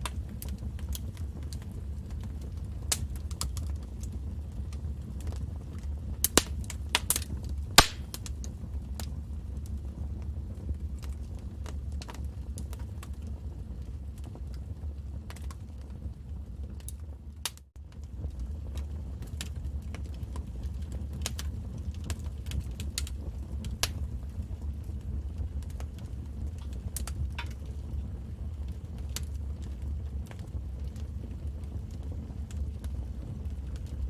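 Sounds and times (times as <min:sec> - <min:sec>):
low rumble of burning: 0:00.0 - 0:34.0
wood fire crackling and popping: 0:00.0 - 0:34.0.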